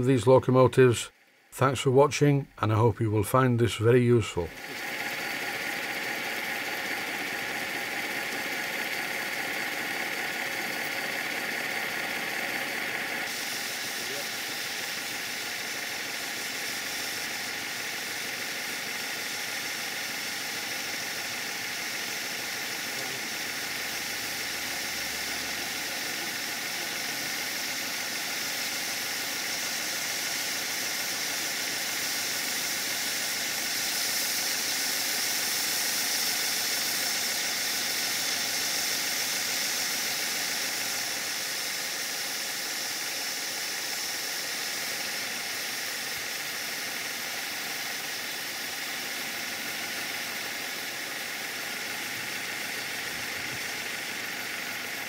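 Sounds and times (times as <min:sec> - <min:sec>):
model steam locomotive running: 0:00.0 - 0:55.0
steam hissing: 0:03.6 - 0:55.0.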